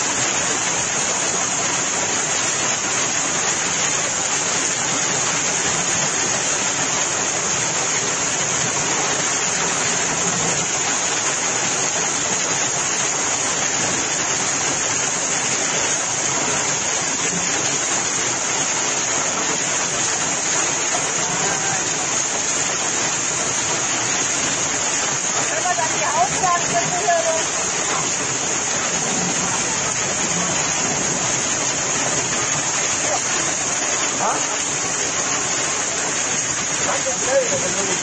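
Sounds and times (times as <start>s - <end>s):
heavy hail pelting cars: 0.0s - 38.0s.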